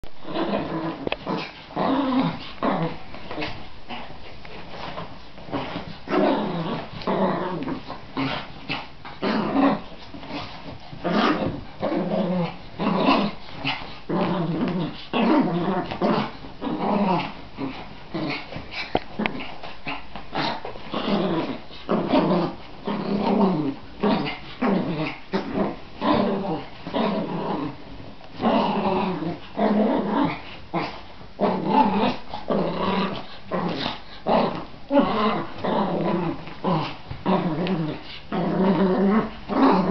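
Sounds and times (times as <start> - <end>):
small dog growling: 0.2 - 4.2, 5.5 - 39.9.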